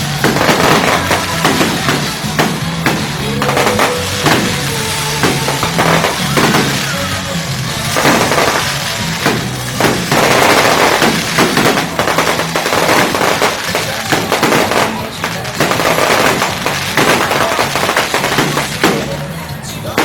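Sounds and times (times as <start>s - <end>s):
background music: 0.0s - 20.0s
fireworks bangs and crackles: 0.0s - 20.0s.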